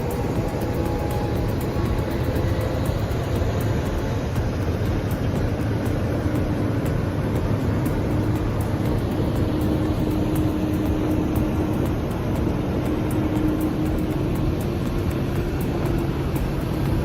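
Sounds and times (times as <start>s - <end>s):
heavy diesel engines droning: 0.0s - 17.0s.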